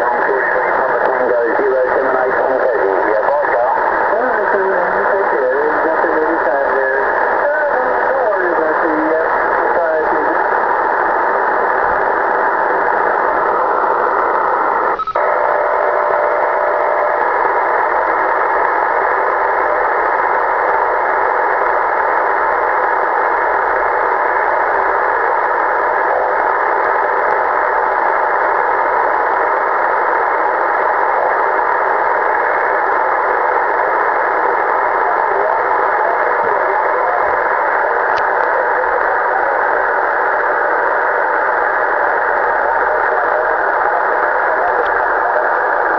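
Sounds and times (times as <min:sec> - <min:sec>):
radio click: 0:00.0 - 0:45.9
radio static hiss: 0:00.0 - 0:45.9.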